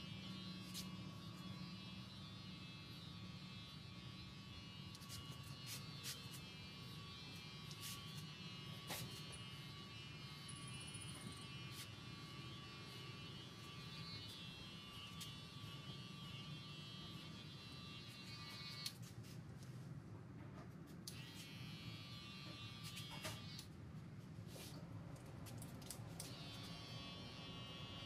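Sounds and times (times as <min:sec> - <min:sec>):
electric hair clippers buzzing: 0:00.0 - 0:19.1, 0:21.0 - 0:23.7, 0:25.9 - 0:28.0.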